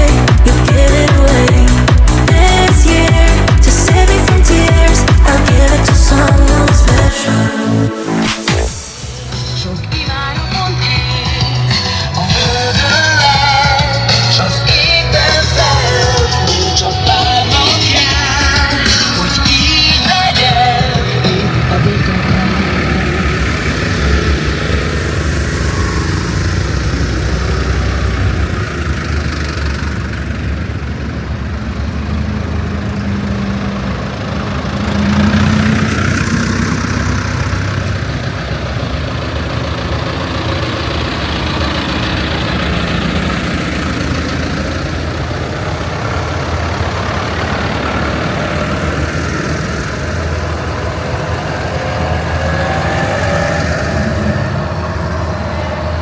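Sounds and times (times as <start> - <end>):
tractor engines driving past: 0.0 - 56.0.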